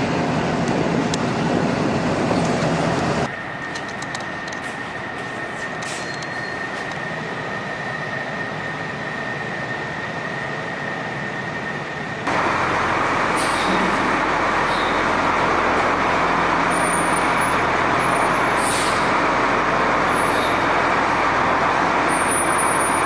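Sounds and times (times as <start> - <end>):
machinery drone with high whine: 0.0 - 23.0.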